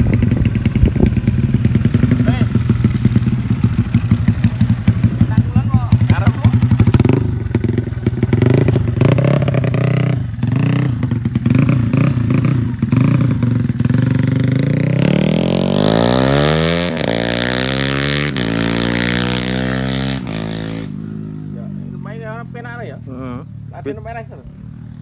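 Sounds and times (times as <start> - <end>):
motorcycle engine revving and accelerating: 0.0 - 25.0.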